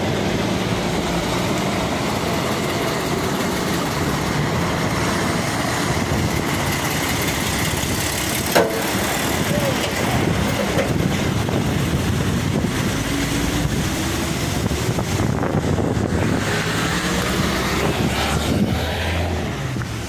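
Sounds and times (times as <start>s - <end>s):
diesel truck engine rumbling: 0.0s - 20.0s
wind buffeting microphone: 0.0s - 20.0s.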